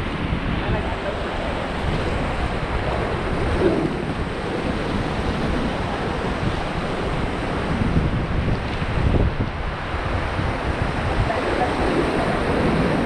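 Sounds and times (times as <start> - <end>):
rushing whitewater: 0.0 - 13.0
wind buffeting microphone: 0.0 - 13.0.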